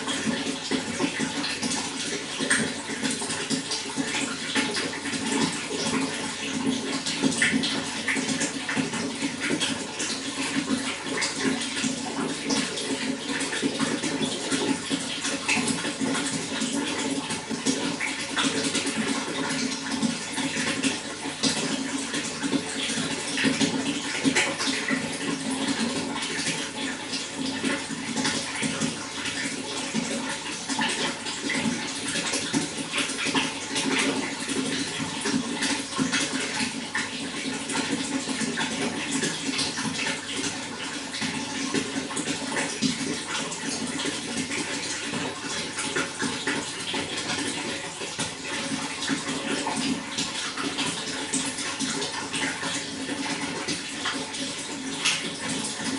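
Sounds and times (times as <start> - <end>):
running water splashing: 0.0 - 55.9.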